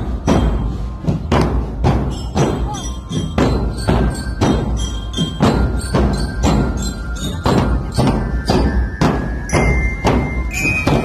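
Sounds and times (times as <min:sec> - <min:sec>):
bass drums beating march rhythm: 0:00.0 - 0:11.0.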